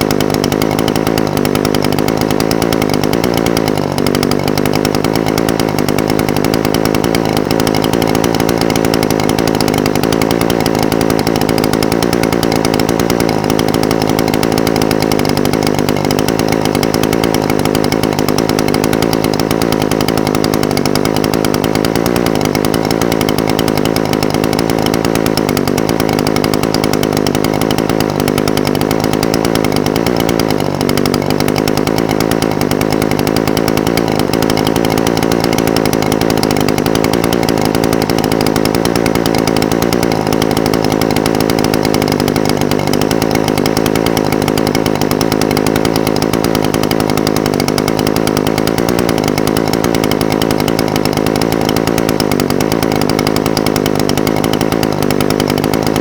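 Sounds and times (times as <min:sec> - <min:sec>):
brush cutter engine idling: 0:00.0 - 0:56.0.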